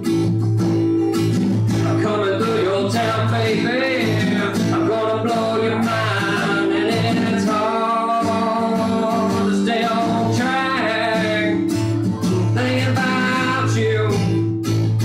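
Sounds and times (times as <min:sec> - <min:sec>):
strummed acoustic guitar: 0:00.0 - 0:15.0
man singing: 0:01.6 - 0:14.6.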